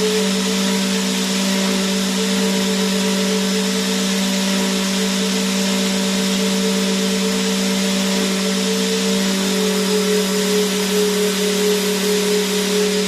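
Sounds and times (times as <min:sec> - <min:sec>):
vacuum cleaner motor running: 0:00.0 - 0:13.0.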